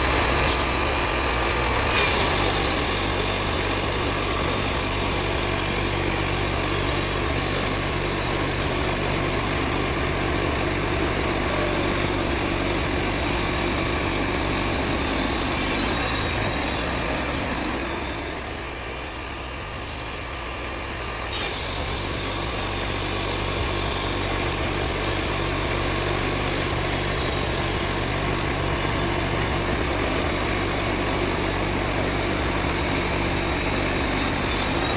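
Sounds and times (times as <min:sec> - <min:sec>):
band sawmill cutting log: 0:00.0 - 0:34.9.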